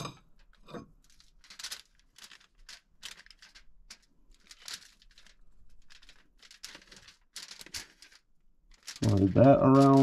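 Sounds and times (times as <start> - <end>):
aluminum foil crinkling: 0.3 - 10.0.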